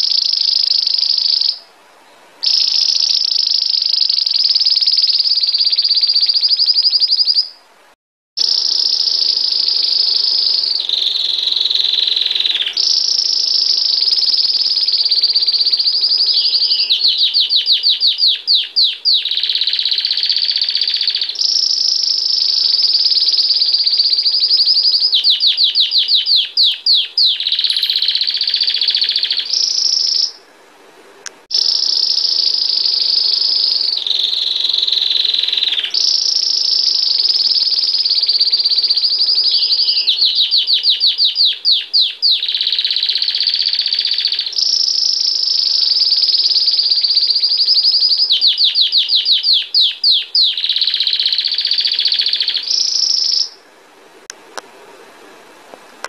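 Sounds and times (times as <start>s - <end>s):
canary singing trills: 0.0s - 1.7s, 2.4s - 7.6s, 8.4s - 30.4s, 31.5s - 53.6s.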